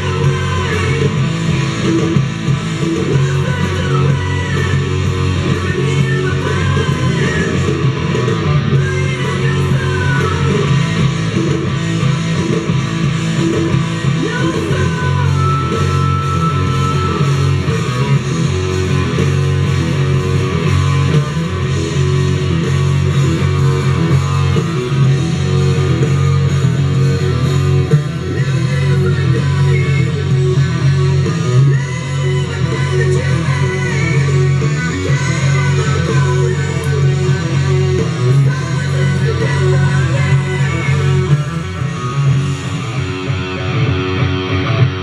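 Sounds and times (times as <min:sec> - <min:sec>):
guitar rock music: 0:00.0 - 0:45.0.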